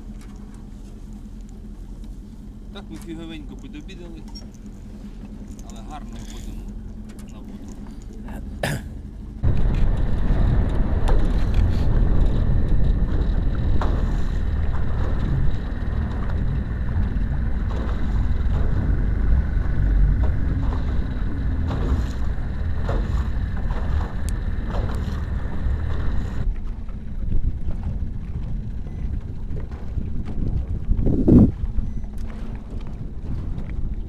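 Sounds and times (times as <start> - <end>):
hull knocking on waves: 0.0 - 34.0
outboard motor running: 0.0 - 34.0
wind buffeting microphone: 2.8 - 34.0.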